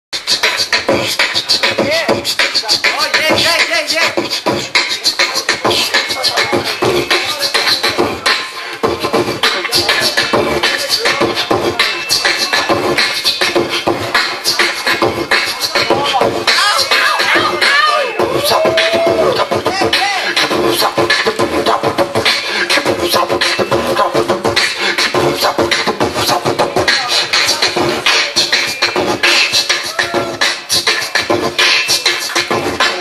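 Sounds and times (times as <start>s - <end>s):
human beatbox vocal drums: 0.2s - 33.0s
sliding vocal tones: 0.2s - 33.0s.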